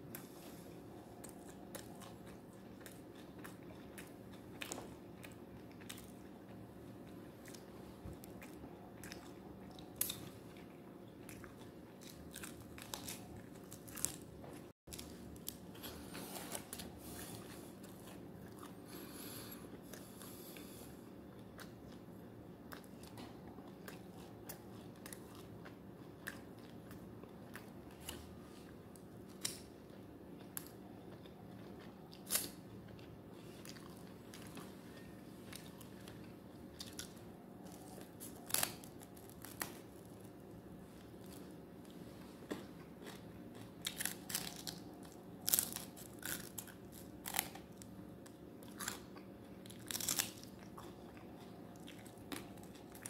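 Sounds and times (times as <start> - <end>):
low steady hum: 0.0 - 53.0
chewing and biting: 0.1 - 20.7, 22.6 - 53.0.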